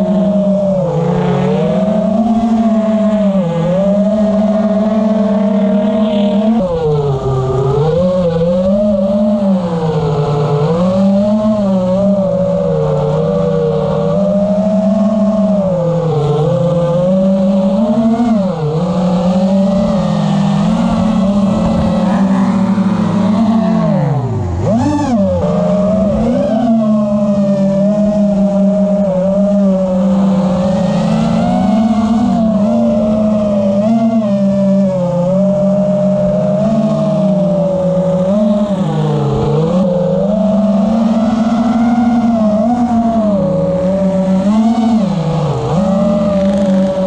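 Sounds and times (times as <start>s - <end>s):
quadcopter motors whining: 0.0s - 47.0s.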